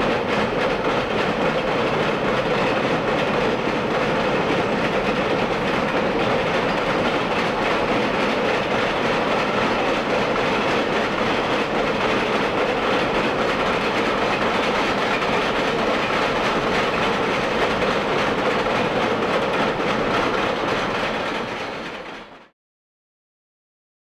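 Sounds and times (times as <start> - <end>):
train wheels on rail: 0.0 - 22.5.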